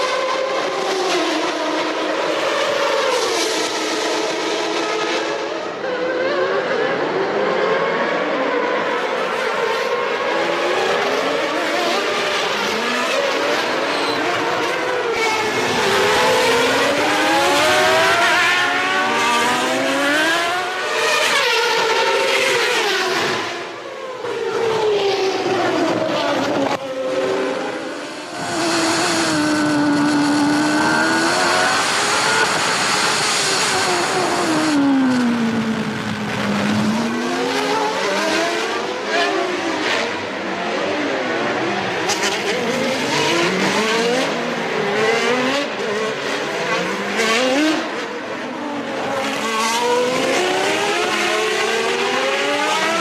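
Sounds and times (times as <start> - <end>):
racing car engines revving: 0.0 - 53.0.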